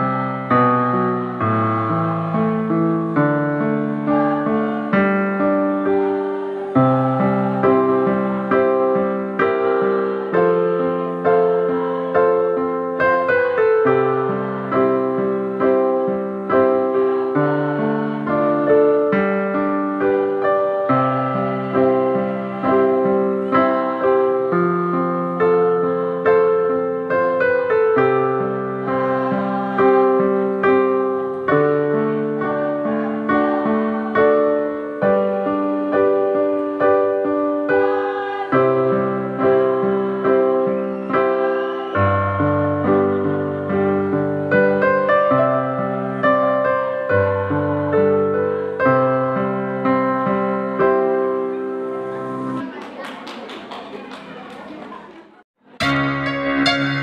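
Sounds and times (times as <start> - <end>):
piano chords on keyboard: 0.0 - 52.7, 55.7 - 57.0.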